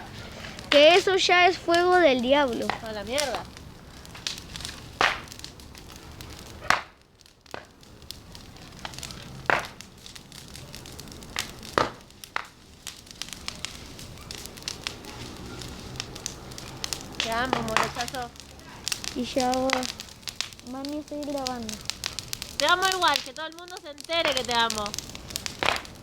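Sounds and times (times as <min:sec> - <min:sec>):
bonfire crackling: 0:00.0 - 0:26.0
loud sharp pops: 0:00.0 - 0:26.0.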